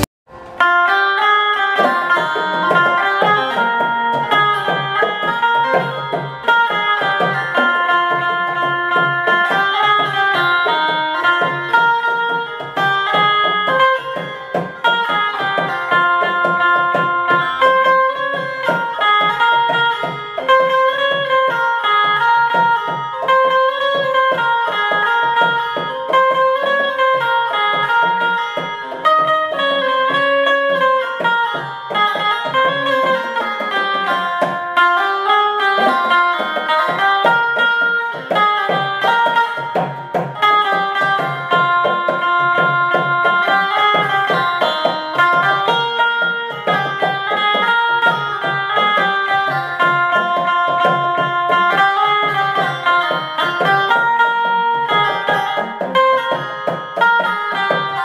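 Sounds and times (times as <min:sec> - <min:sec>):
amplified plucked zither melody: 0:00.0 - 0:58.0.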